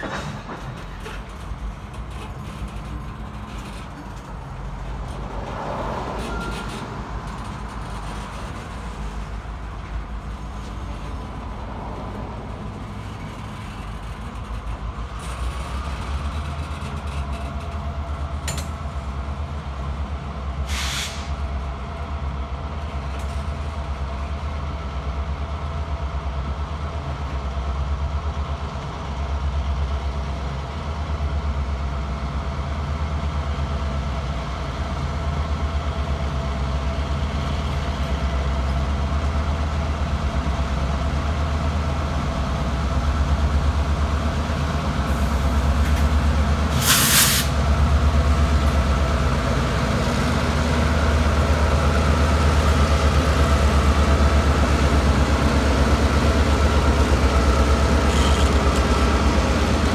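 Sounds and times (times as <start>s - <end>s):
diesel locomotive engine drone: 0.0s - 59.9s
train wheels rumbling and clacking: 0.0s - 59.9s.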